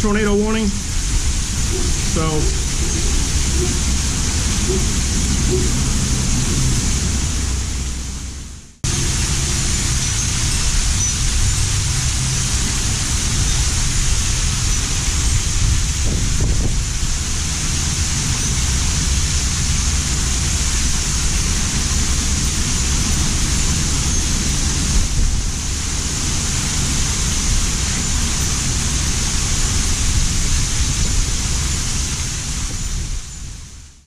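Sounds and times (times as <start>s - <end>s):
rain: 0.0s - 34.0s
wind buffeting microphone: 0.0s - 34.0s.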